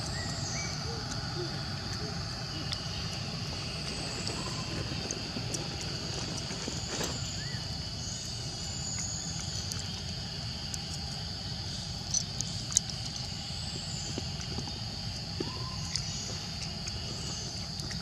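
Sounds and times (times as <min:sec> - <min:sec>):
insects droning: 0:00.0 - 0:18.0
low background rumble: 0:00.0 - 0:18.0.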